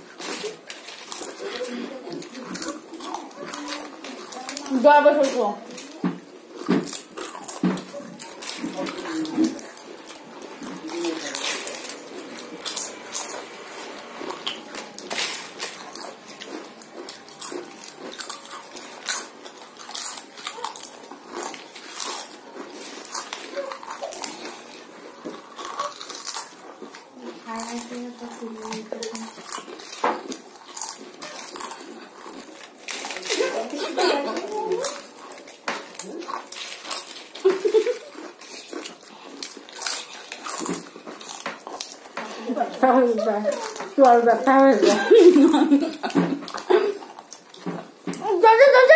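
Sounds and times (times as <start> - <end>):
people crunching potato chips: 0.0 - 48.9.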